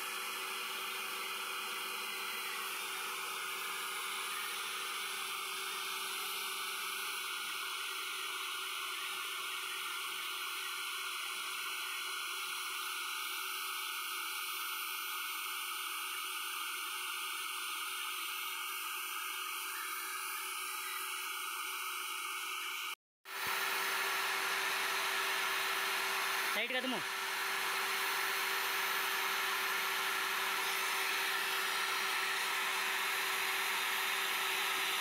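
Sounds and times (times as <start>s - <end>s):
core drill whining: 0.0s - 35.0s.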